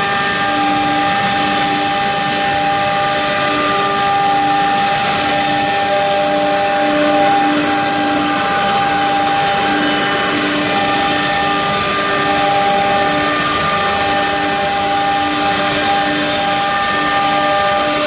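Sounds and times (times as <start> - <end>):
router machine whine with hiss: 0.0 - 18.0.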